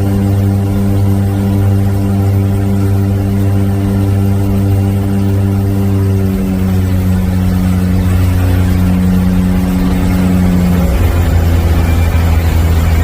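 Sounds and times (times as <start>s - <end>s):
seaplane propeller engines: 0.0s - 13.0s.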